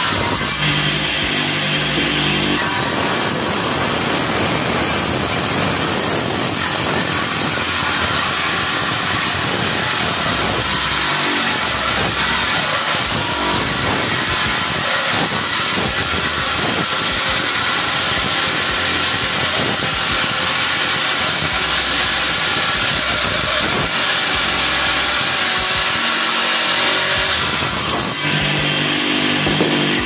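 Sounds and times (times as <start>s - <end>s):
table saw cutting a board: 0.0s - 30.0s.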